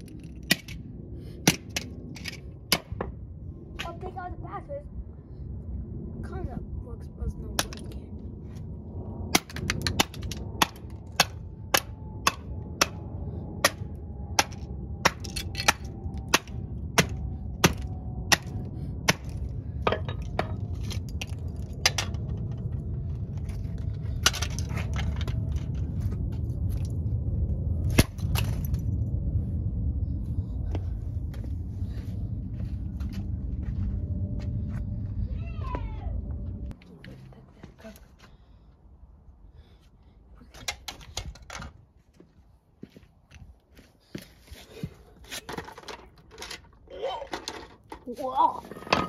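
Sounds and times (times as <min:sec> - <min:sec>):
steady low rumble: 0:00.0 - 0:47.1.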